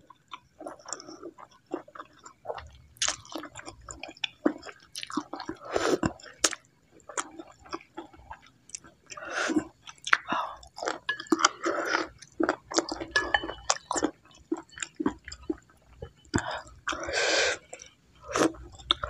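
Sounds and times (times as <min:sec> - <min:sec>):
chewing soup: 0:00.0 - 0:19.0.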